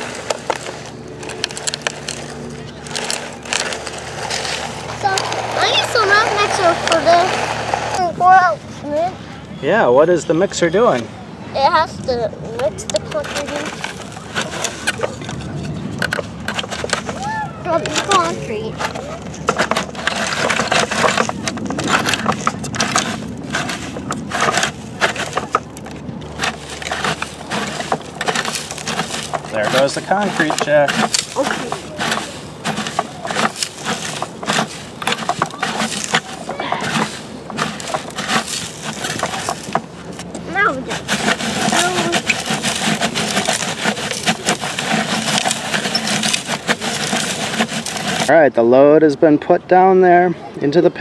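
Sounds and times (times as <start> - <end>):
toy truck scraping gravel: 0.0 - 48.5
dirt and grit crunching and rattling: 0.0 - 51.0.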